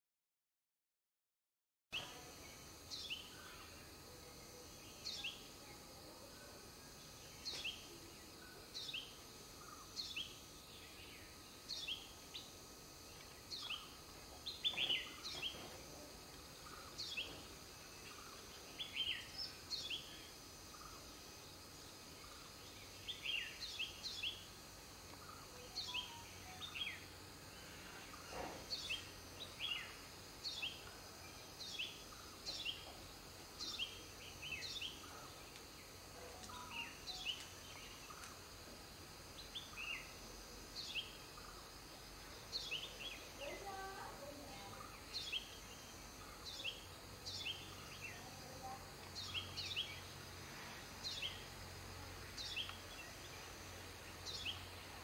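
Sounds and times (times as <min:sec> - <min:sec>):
small bird chirping: 0:02.0 - 0:05.8, 0:07.0 - 0:15.7, 0:16.6 - 0:21.0, 0:21.8 - 0:38.5, 0:39.3 - 0:55.0
faint high hiss: 0:02.0 - 0:55.0.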